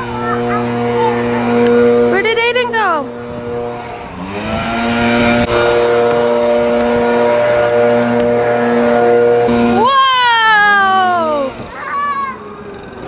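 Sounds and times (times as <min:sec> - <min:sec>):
engine running and revving: 0:00.0 - 0:13.0.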